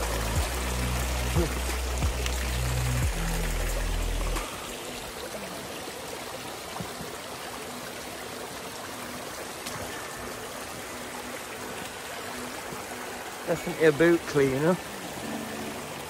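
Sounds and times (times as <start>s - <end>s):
stream rippling over stones: 0.0s - 16.0s.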